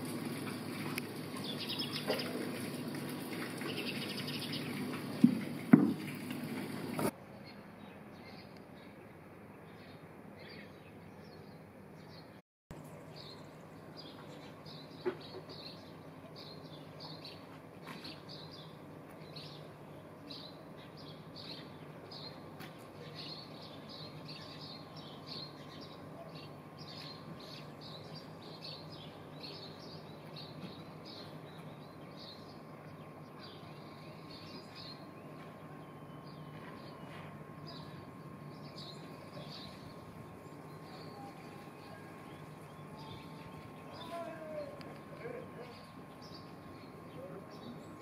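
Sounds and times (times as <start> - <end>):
low steady hum: 0.0 - 48.0
small birds chirping: 0.0 - 48.0.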